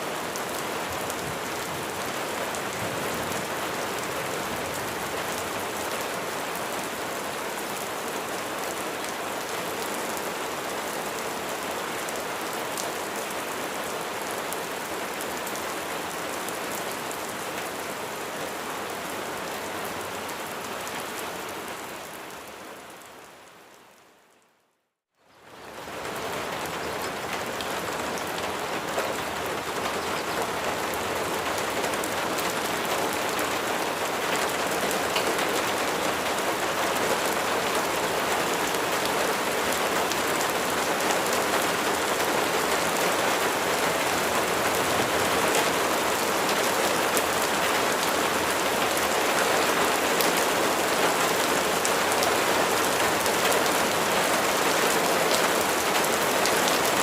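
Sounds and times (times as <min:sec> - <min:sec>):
rain pattering: 0:00.0 - 0:23.4, 0:25.2 - 0:57.0.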